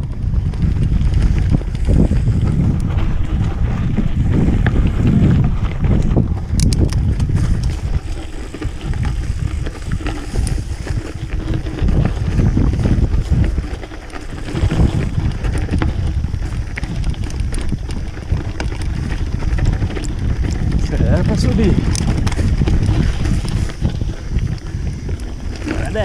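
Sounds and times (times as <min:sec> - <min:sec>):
bike clicks and rattles: 0:00.0 - 0:26.0
wind buffeting microphone: 0:00.0 - 0:26.0.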